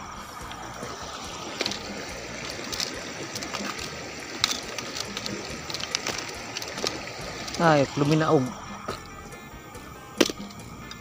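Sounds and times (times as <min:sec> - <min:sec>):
water splashes: 0:00.0 - 0:09.3
water sloshing from wading: 0:00.0 - 0:11.0.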